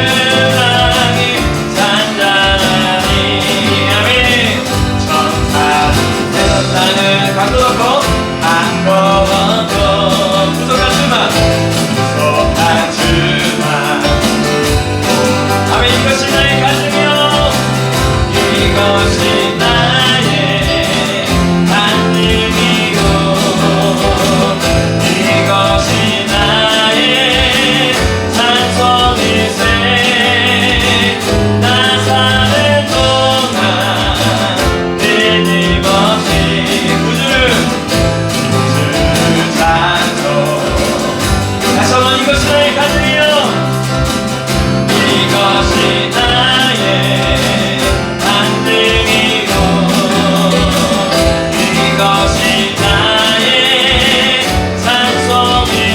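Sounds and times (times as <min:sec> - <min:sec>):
drums beat: 0:00.0 - 0:55.9
people singing: 0:00.0 - 0:55.9
worship band playing: 0:00.0 - 0:55.9.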